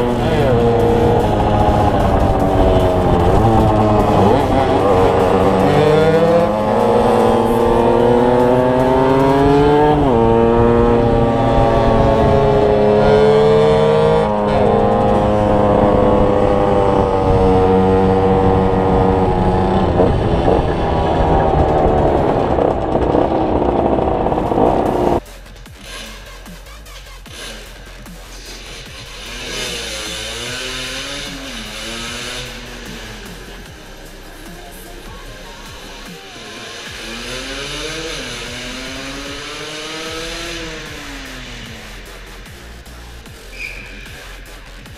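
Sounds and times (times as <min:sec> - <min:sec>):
two-stroke motorcycle engine revving: 0:00.0 - 0:44.9.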